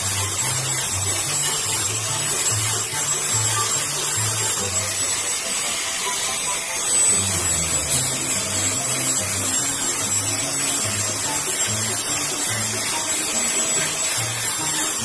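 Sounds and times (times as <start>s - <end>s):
angle grinder sanding wood: 0.0s - 15.0s.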